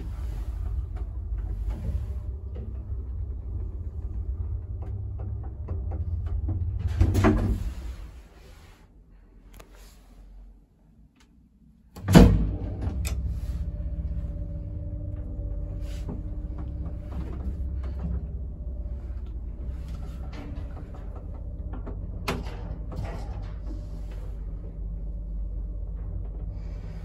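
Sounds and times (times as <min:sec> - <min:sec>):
lift humming and rumbling: 0:00.0 - 0:27.0.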